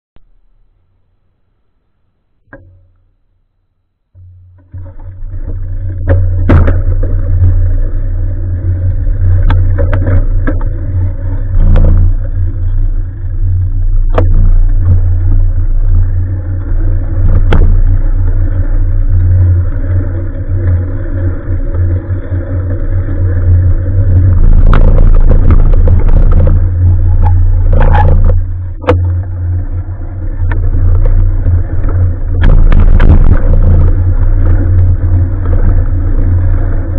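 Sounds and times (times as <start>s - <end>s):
road rumble: 4.0s - 36.9s
wind buffeting microphone: 5.6s - 36.9s.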